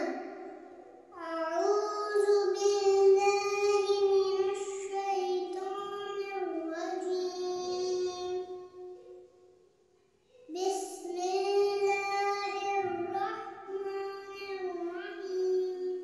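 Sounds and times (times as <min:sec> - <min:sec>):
girl chanting recitation: 0:00.0 - 0:08.7, 0:10.3 - 0:16.0.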